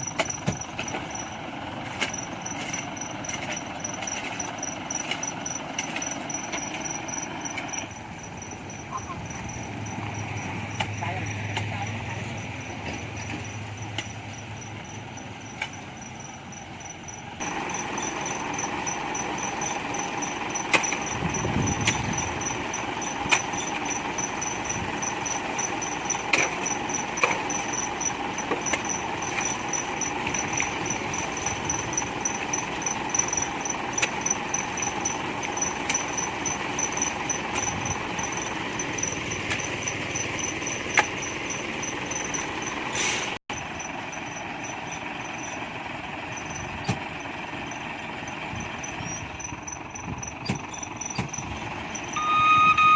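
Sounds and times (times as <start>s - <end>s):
truck engine running: 0.0s - 52.9s
high pulsing chirp: 2.2s - 52.9s.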